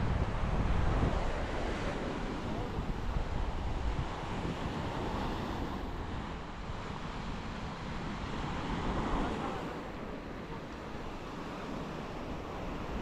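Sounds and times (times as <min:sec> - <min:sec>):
wind and surf rushing: 0:00.0 - 0:13.0
wind buffeting microphone: 0:00.0 - 0:13.0.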